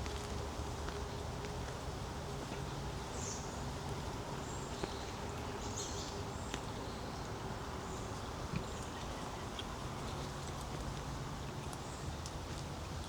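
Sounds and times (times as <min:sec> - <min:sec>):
low rush of background noise: 0:00.0 - 0:13.0.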